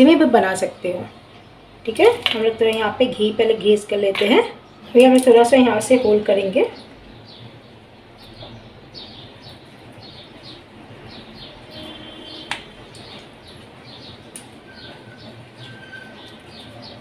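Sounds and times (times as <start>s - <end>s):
small birds chirping: 0.4s - 17.0s.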